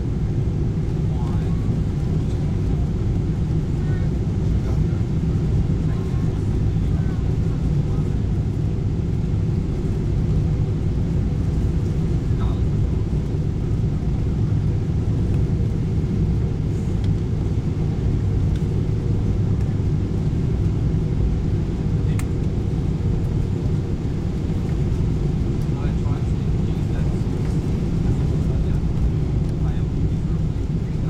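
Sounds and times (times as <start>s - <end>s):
low rumble of engine and airflow: 0.0s - 31.0s.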